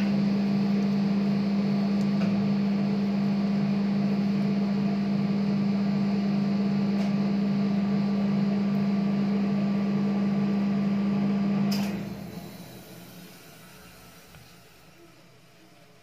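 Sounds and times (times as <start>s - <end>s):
refrigeration unit humming: 0.0s - 16.0s.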